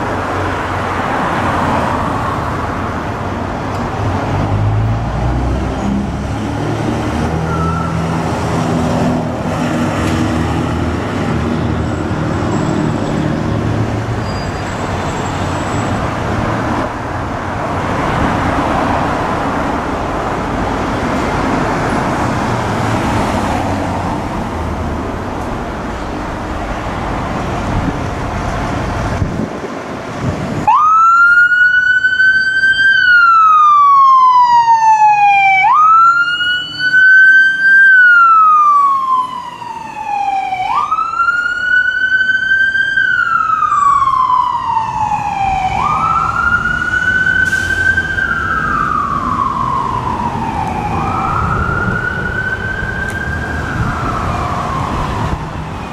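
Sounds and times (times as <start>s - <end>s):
fire engine siren wailing: 0.0s - 26.5s, 30.6s - 55.9s
engine and traffic rumble: 0.0s - 55.9s.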